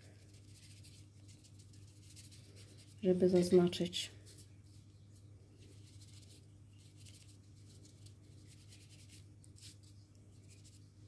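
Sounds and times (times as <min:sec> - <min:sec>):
brushing strokes on paper: 0:00.0 - 0:03.5, 0:04.1 - 0:10.9.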